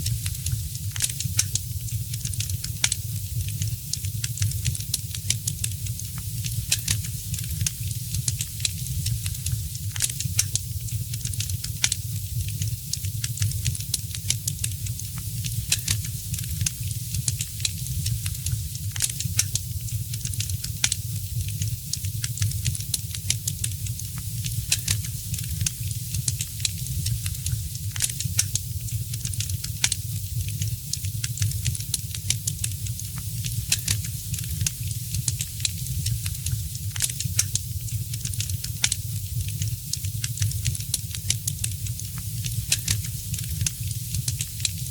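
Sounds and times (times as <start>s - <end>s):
low rumble of fire: 0.0s - 44.9s
wood fire crackling: 0.0s - 44.9s.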